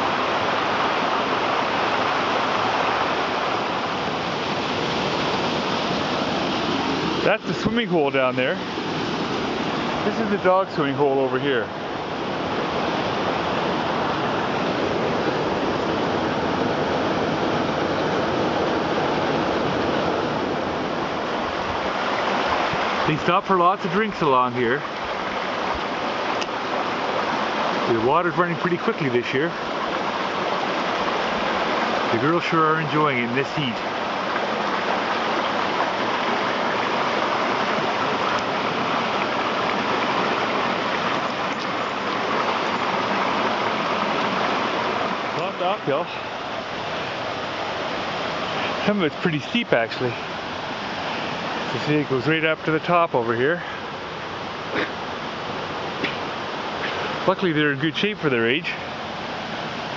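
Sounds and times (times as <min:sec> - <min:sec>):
creek water rushing over rocks: 0:00.0 - 0:59.9.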